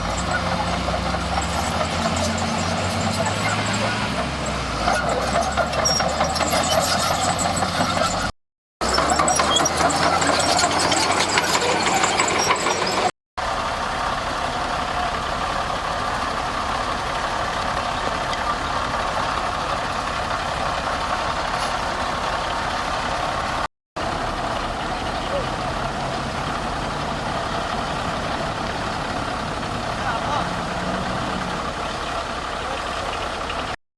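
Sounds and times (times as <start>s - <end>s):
heavy diesel machinery engines: 0.0s - 33.8s.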